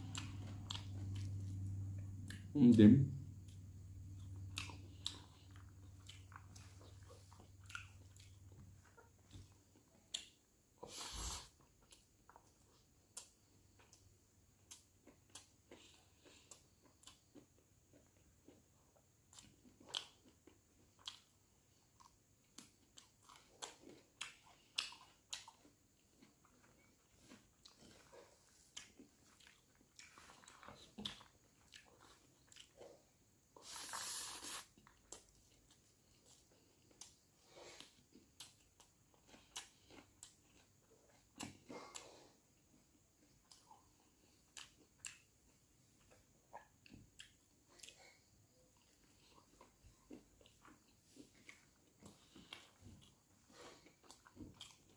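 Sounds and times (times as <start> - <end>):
man chewing and mouth smacks: 0.0 - 2.5, 3.3 - 54.9.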